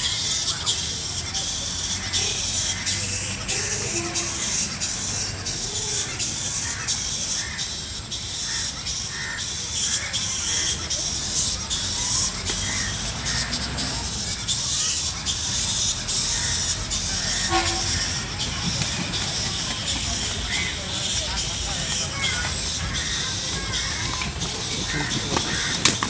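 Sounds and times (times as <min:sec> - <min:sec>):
steady high-pitched hiss: 0:00.0 - 0:25.9.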